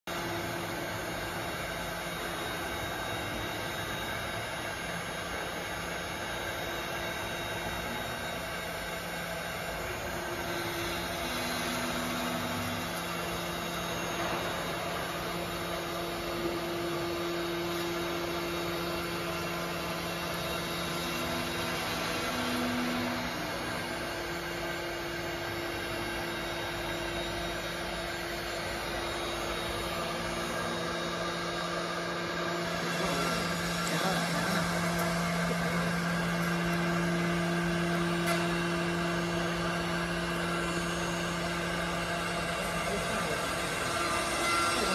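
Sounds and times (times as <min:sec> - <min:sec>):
cnc router spindle whirring: 0:00.1 - 0:44.9.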